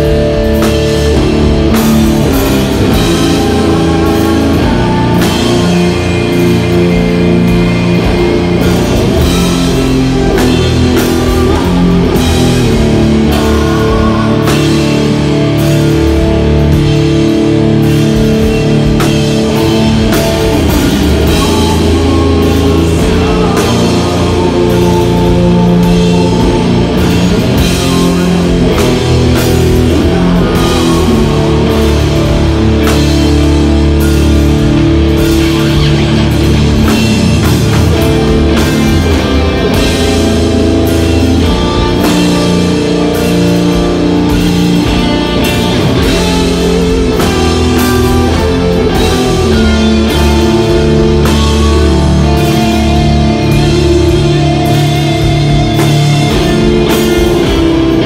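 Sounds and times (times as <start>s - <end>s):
bass guitar: 0.0s - 58.0s
distorted electric guitars: 0.0s - 58.0s
drums: 0.0s - 58.0s.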